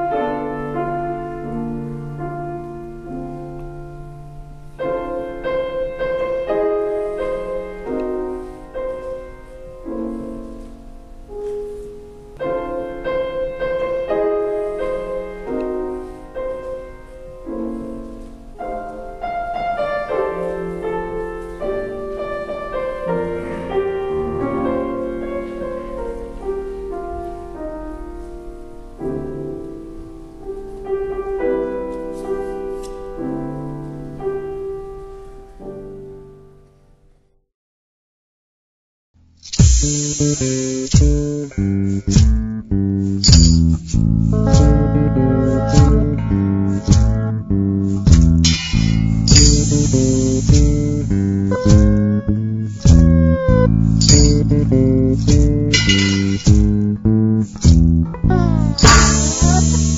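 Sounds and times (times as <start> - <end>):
classical piano music: 0.0 - 36.9, 40.4 - 59.9.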